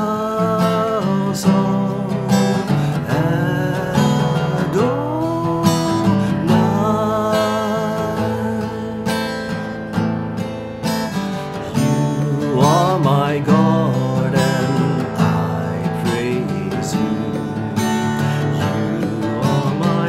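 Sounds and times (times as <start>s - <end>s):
man singing: 0.0s - 9.7s, 11.4s - 20.0s
acoustic guitar strumming: 0.0s - 20.0s.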